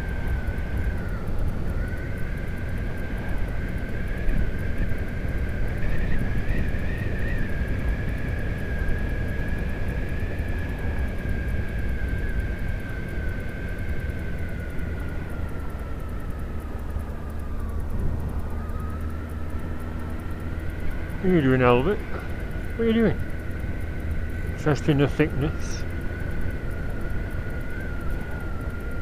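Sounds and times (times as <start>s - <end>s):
motorcycle engine cruising: 0.0s - 29.0s
steady high whine: 0.0s - 29.0s
wind rumble: 0.0s - 29.0s.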